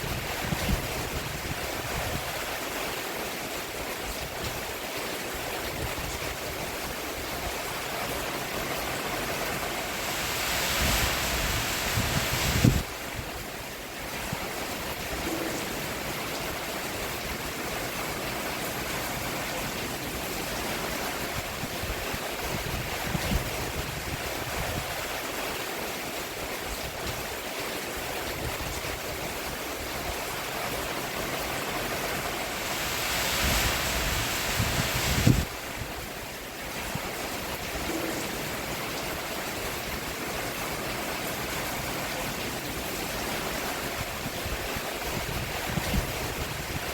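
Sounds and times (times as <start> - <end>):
rain falling on a roof: 0.0 - 46.9.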